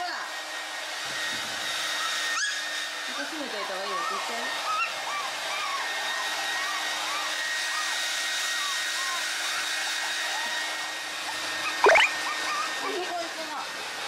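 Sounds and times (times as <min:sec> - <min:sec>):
hair dryer running: 0:00.0 - 0:14.0
puppy squealing: 0:01.9 - 0:13.4
puppy whimpering: 0:01.9 - 0:13.8.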